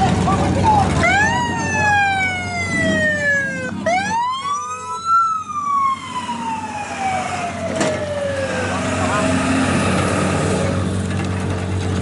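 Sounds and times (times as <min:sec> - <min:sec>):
emergency siren wailing: 0:00.7 - 0:10.9.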